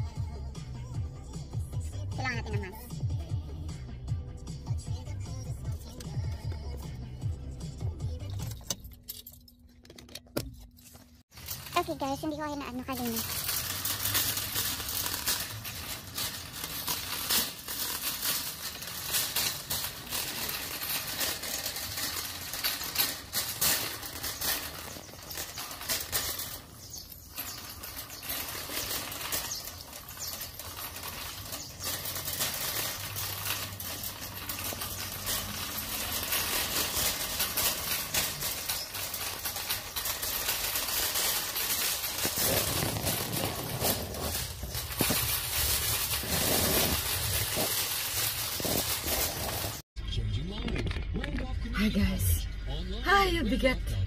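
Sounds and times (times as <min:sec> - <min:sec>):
wire shopping cart rattling: 0:00.0 - 0:03.4, 0:04.6 - 0:09.4, 0:10.7 - 0:49.8.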